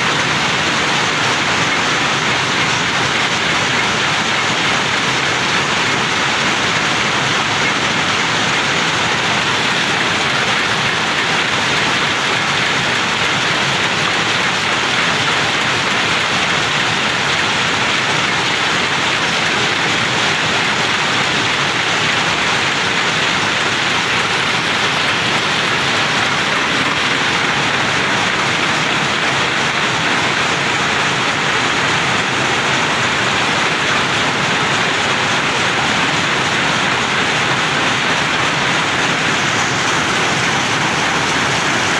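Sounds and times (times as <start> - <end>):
power looms clattering: 0.0 - 41.9.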